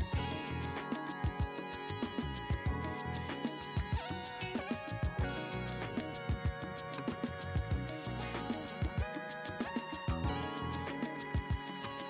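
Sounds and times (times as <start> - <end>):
music with plucked strings and percussion: 0.0 - 12.0.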